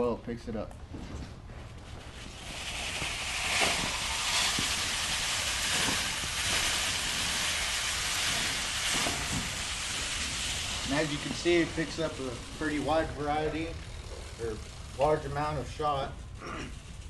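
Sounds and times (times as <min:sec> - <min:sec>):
steel pellets rattling: 0:02.1 - 0:17.0.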